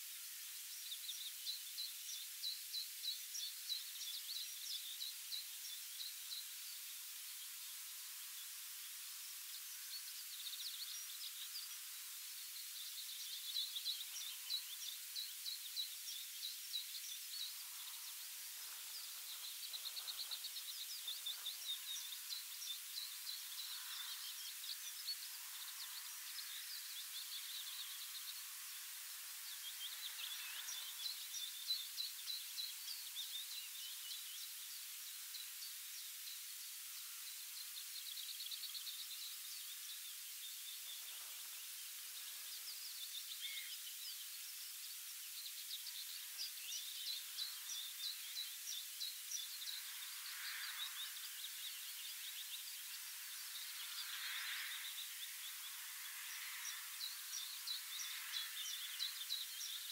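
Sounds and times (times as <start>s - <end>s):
songbirds chirping: 0.0s - 59.9s
steady hiss: 0.0s - 59.9s.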